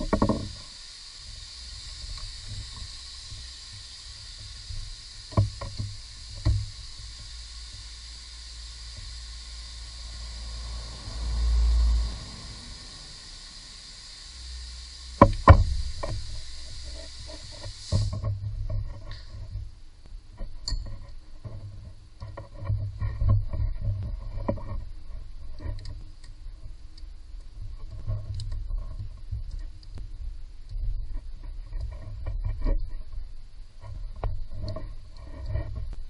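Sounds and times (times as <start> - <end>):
low handling rumble: 0.0 - 36.0
steady hiss: 0.0 - 36.0.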